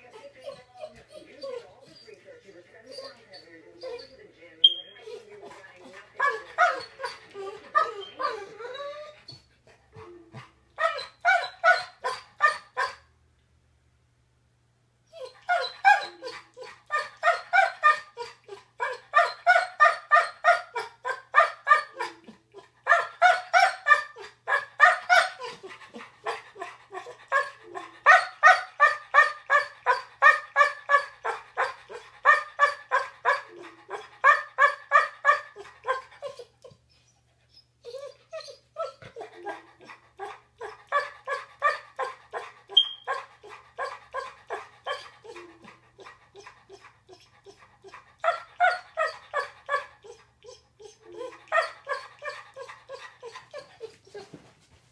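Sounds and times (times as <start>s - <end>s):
dog barking and whining: 0.0s - 2.2s, 5.0s - 13.1s, 15.1s - 54.4s.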